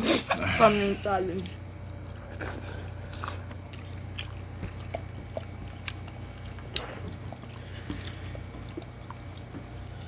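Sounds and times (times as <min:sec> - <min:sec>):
steady low hum: 0:00.0 - 0:10.0
people chewing and lip smacking: 0:01.3 - 0:10.0.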